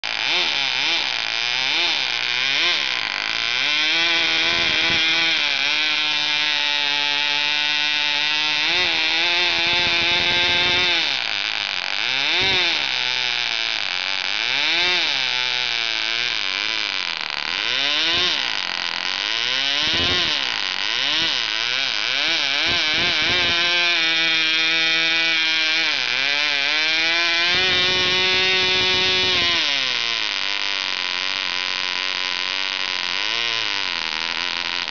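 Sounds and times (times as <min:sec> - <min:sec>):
model engine whining: 0:00.0 - 0:34.9.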